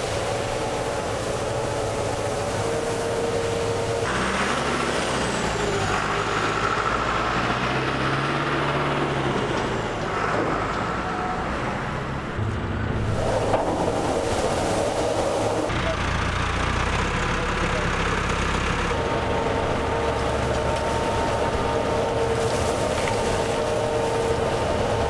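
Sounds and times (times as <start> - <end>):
tractor feed mixer machinery: 0.0 - 25.0.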